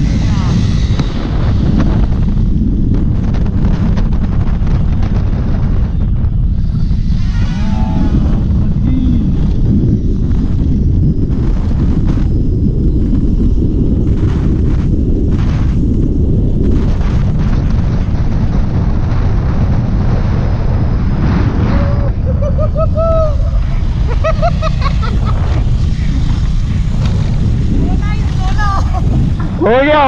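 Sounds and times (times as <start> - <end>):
wind buffeting on microphone: 0.0 - 30.0.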